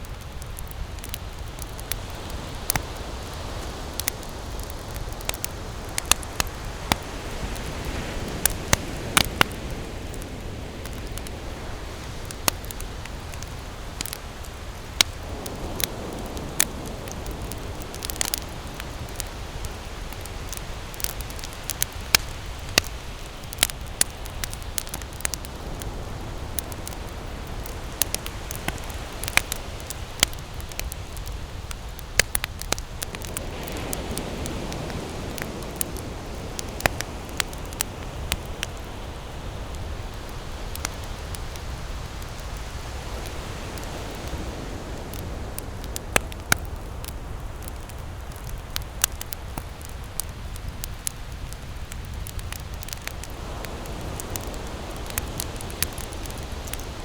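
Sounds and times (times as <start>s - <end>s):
campfire crackling and popping: 0.0s - 57.0s
hiss of burning: 0.0s - 57.0s.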